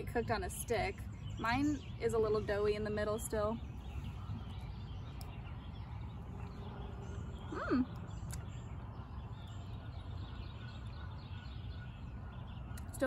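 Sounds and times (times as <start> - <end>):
faint bird chirps: 0.6 - 13.0.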